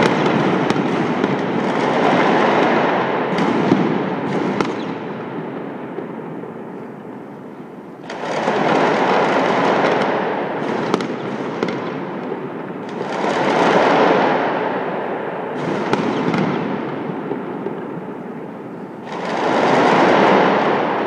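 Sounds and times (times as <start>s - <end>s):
sharp firework bangs: 0.0s - 6.6s, 8.0s - 21.0s
fireworks crackling and popping: 0.0s - 7.2s, 8.0s - 14.7s, 15.5s - 21.0s.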